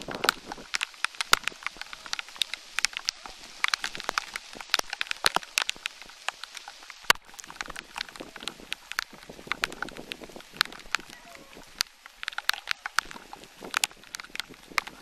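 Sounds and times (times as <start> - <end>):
light rain hiss: 0.0 - 15.0
raindrops tapping: 0.0 - 15.0.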